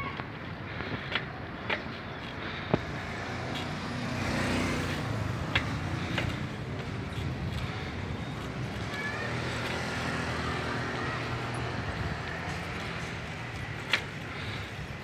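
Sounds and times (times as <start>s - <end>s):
motor vehicle: 0.0s - 15.0s
road and wind rumble: 0.0s - 15.0s.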